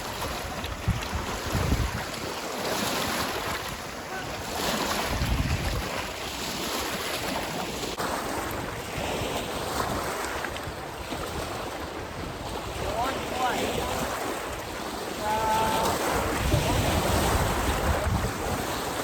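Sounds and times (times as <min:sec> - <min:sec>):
gusty wind on microphone: 0:00.0 - 0:19.0.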